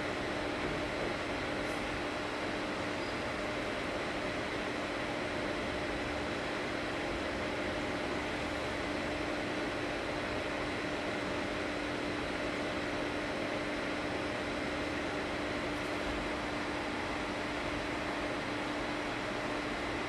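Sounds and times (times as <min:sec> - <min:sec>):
machine hum with hiss: 0:00.0 - 0:20.0.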